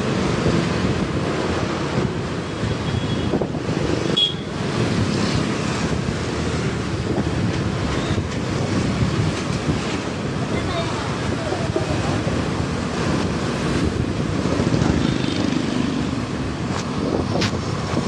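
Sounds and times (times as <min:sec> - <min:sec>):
road and traffic noise: 0:00.0 - 0:18.0
wind on microphone: 0:00.1 - 0:18.0.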